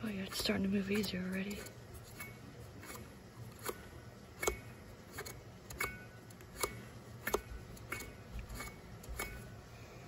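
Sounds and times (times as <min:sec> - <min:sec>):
sharp clicks of turning fan shaft: 0:00.0 - 0:09.7.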